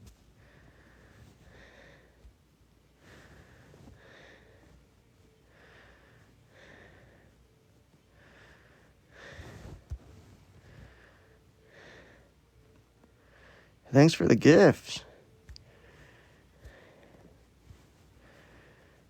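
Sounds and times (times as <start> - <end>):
person breathing softly: 0.4 - 2.3, 3.0 - 12.4, 13.2 - 13.8, 15.1 - 19.0.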